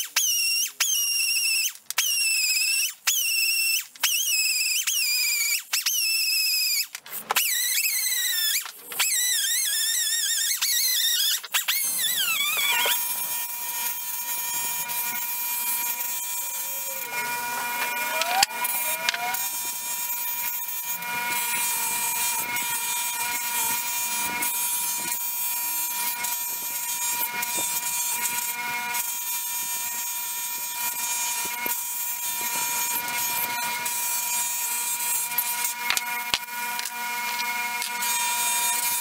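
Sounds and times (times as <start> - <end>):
bench grinder whining: 6.6 - 39.0.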